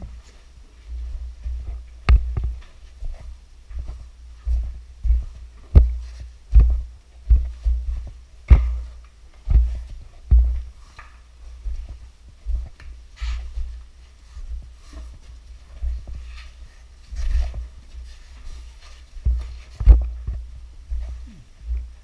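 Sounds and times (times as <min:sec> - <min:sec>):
low thuds and scuffs: 0:00.0 - 0:22.0.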